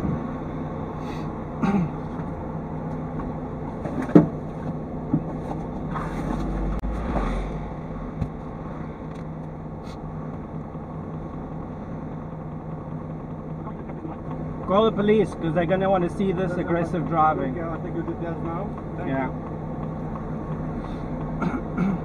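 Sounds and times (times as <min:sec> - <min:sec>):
car engine idling: 0:00.0 - 0:22.0
low rumble: 0:00.0 - 0:22.0.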